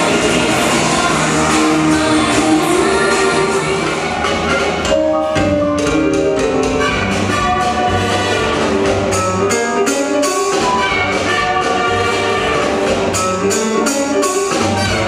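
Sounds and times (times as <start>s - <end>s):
loud instrumental music: 0.0s - 15.0s.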